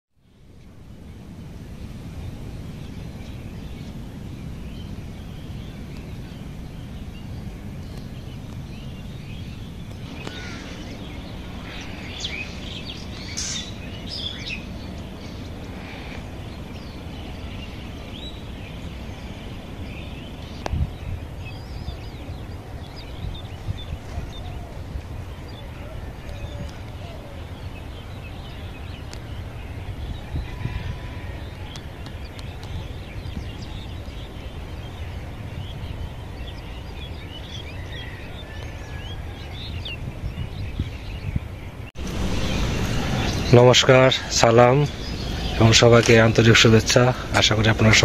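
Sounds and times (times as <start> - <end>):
small birds chirping: 0.3 - 48.0.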